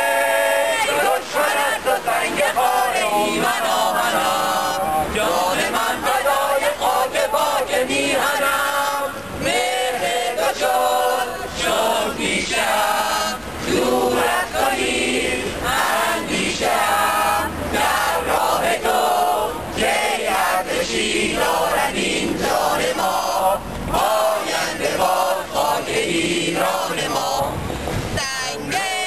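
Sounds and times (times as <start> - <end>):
crowd singing together: 0.0 - 29.0.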